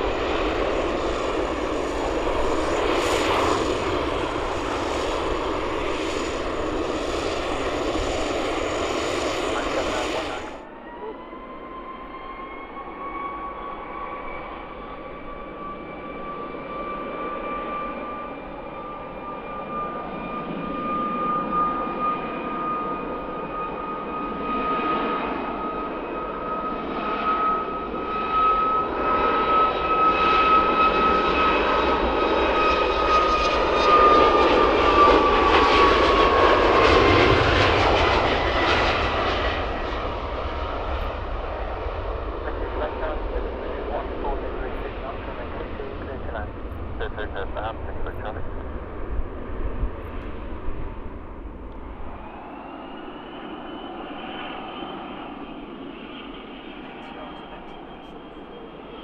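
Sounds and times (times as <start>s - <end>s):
jet engine rush: 0.0s - 11.0s, 11.7s - 59.0s
jet engine whine: 0.0s - 59.0s.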